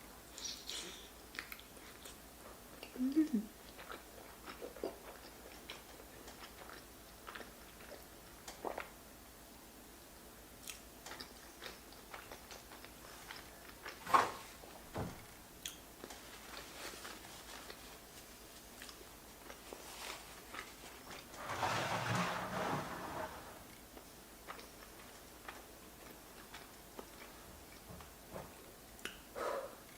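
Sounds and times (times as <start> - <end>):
person chewing food: 0.4 - 9.0, 10.6 - 14.6, 15.6 - 21.4, 23.6 - 29.9.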